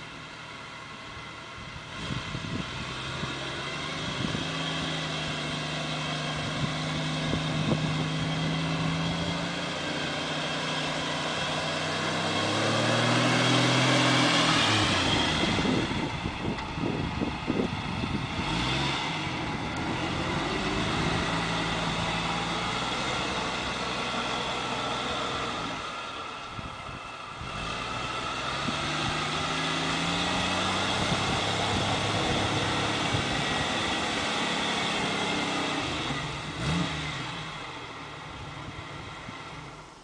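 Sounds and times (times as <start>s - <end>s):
car engine running under load: 0.0s - 40.0s.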